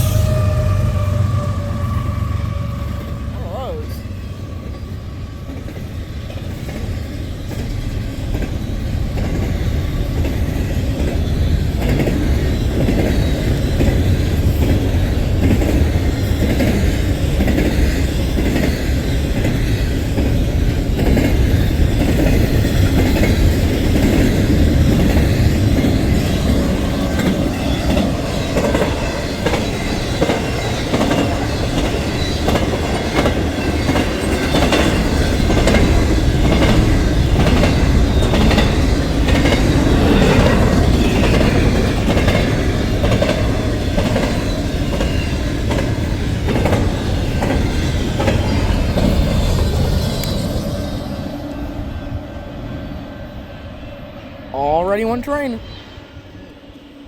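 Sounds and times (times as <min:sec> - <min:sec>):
freight train rumbling past: 0:00.0 - 0:57.0
wheels clacking over rail joints: 0:04.6 - 0:50.6.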